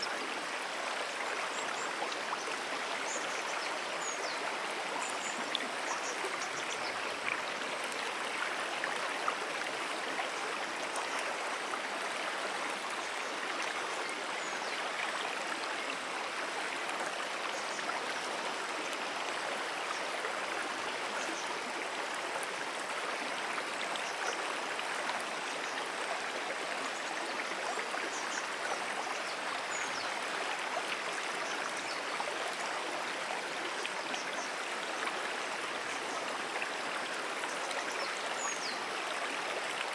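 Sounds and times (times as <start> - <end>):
brook water running: 0.0 - 39.9.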